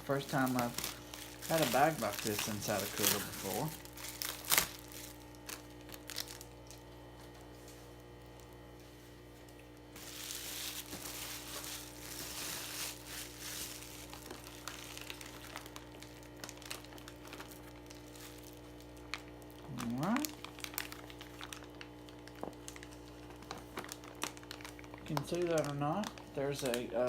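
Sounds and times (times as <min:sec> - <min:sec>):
plastic packaging crinkling: 0:00.0 - 0:08.7, 0:09.5 - 0:27.0
faint steady hum: 0:00.0 - 0:27.0.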